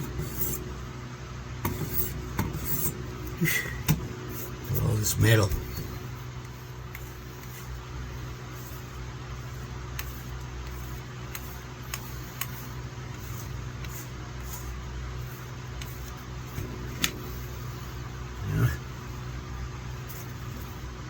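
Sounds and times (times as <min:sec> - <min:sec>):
low electric hum: 0:00.0 - 0:21.0.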